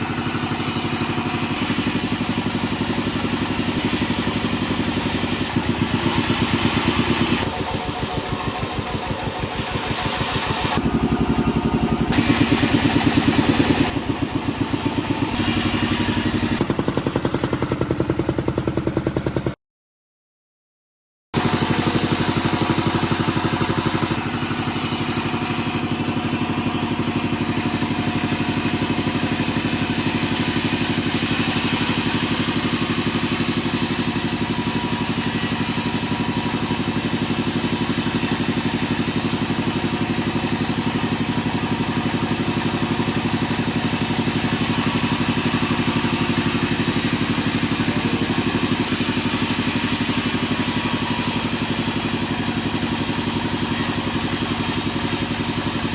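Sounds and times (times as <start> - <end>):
band saw machinery droning: 0.0 - 18.4, 21.4 - 55.9.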